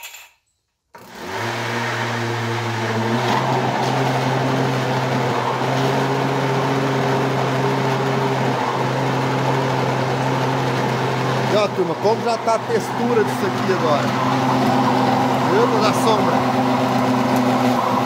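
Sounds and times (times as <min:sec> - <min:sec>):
blender motor humming: 0:01.0 - 0:18.0.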